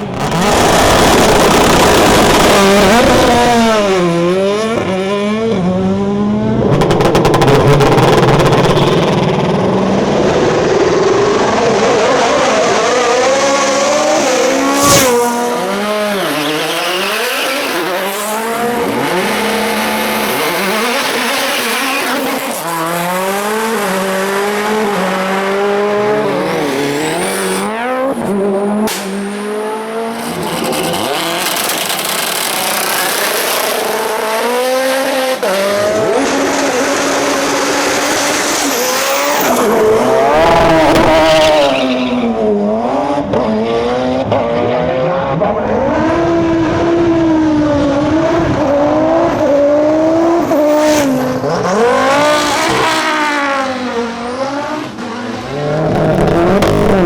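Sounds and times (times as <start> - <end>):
race car engines revving hard: 0.0 - 57.0.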